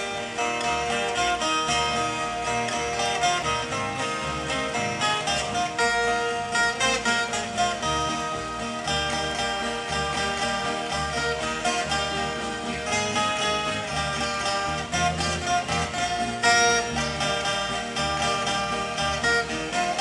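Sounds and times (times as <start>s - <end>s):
folk guitars playing together: 0.0s - 20.0s
low rhythmic bass: 0.0s - 20.0s.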